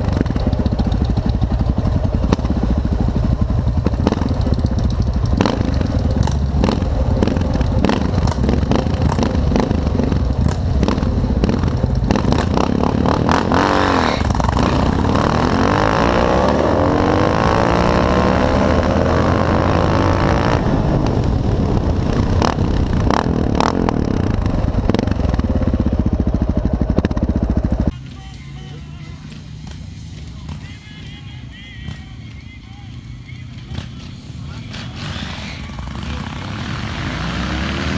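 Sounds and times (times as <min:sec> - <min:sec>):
motorcycle engines running loud: 0:00.0 - 0:37.9
motorcycle revving: 0:00.0 - 0:37.9.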